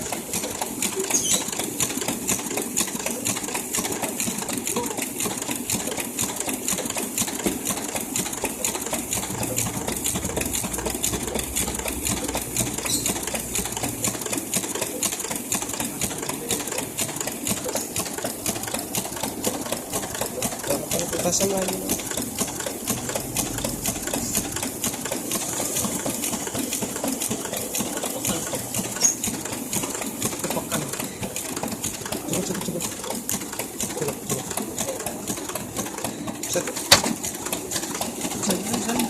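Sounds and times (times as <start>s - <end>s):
machine clattering: 0.0s - 39.0s.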